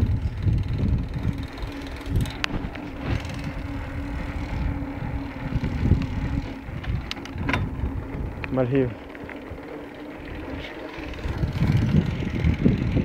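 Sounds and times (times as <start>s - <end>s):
low rumbling: 0.0s - 13.0s
steady low hum: 0.0s - 13.0s
wind buffeting microphone: 0.0s - 13.0s.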